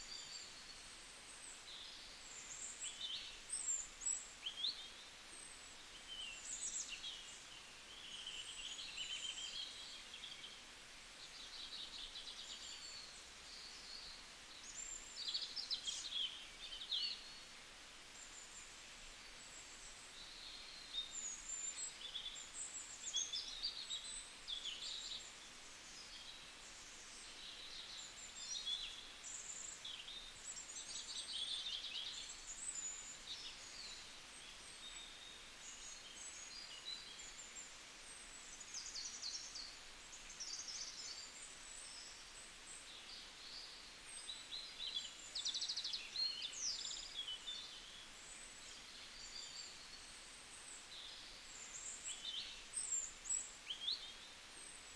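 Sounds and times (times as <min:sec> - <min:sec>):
faint background hiss: 0:00.0 - 0:54.9.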